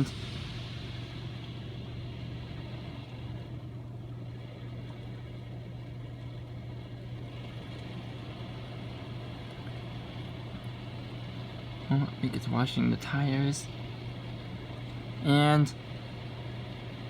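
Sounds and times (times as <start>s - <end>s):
car wash motors humming: 0.0s - 17.0s.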